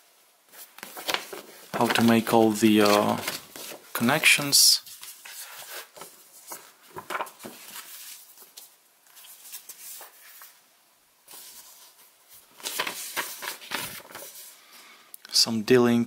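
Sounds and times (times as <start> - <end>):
paper rustling: 0.5 - 10.6, 11.2 - 14.7.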